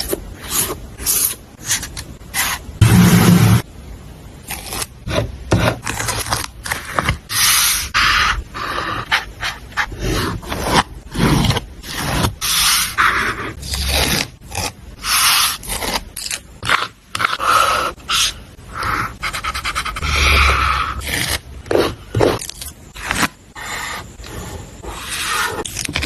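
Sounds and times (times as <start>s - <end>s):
paper scraping and rubbing: 0.0s - 3.6s, 5.5s - 26.0s.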